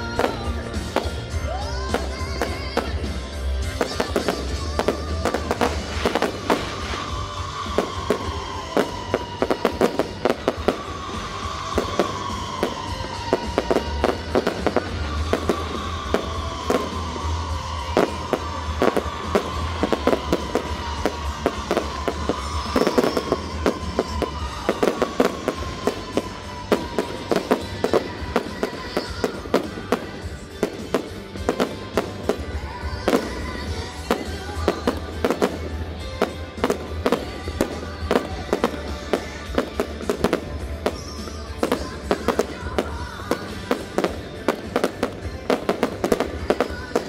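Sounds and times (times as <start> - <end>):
fireworks bangs and cracks: 0.0 - 47.0
music playing: 0.0 - 47.0.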